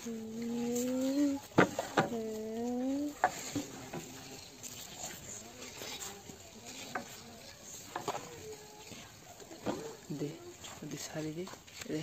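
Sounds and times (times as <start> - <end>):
toy car wheels rolling on concrete: 0.0 - 12.0.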